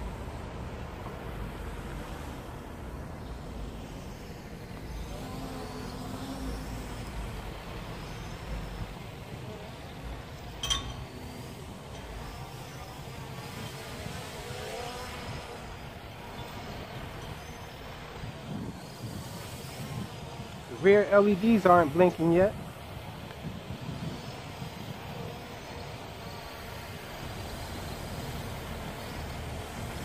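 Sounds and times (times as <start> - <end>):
street traffic: 0.0 - 14.4, 15.4 - 30.0
drone motors whining: 0.0 - 30.0
wind: 0.0 - 30.0.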